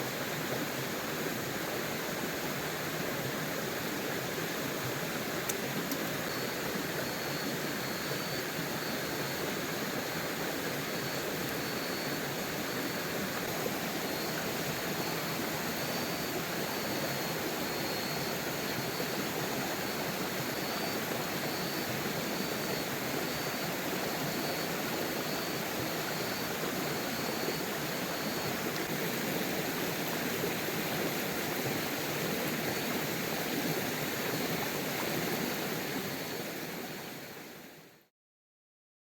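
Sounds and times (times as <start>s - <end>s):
flowing river: 0.0s - 38.1s.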